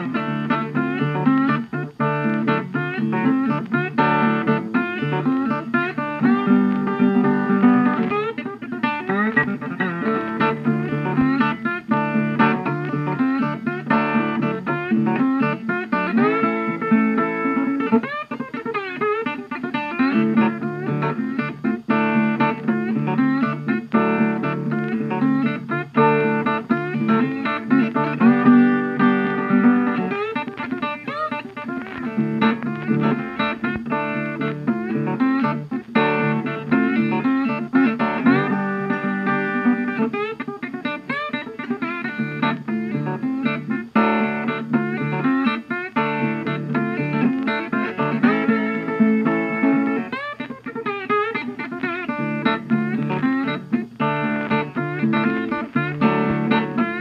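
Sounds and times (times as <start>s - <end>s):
plucked guitar music: 0.0s - 57.0s.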